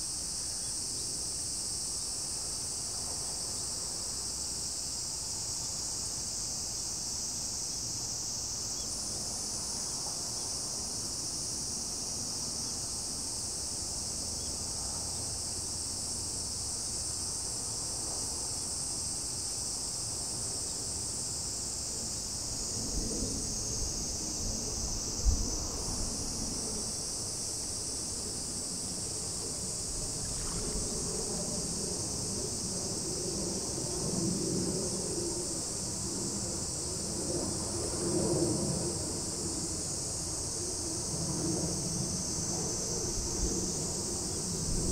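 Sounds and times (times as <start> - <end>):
insects chirping chorus: 0.0 - 44.9.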